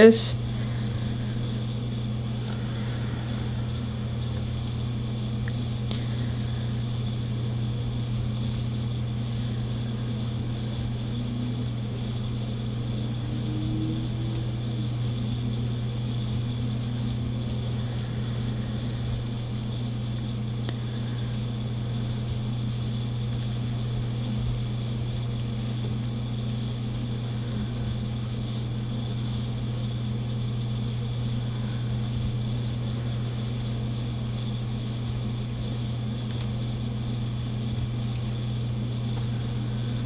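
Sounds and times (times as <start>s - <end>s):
faint high whine: 0.0s - 35.0s
steady low hum: 0.0s - 40.0s.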